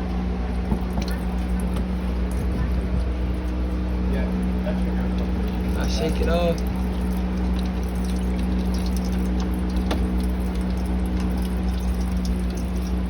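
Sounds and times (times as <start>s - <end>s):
steady low hum: 0.0s - 13.0s
oil pouring into drain pan: 0.5s - 13.0s.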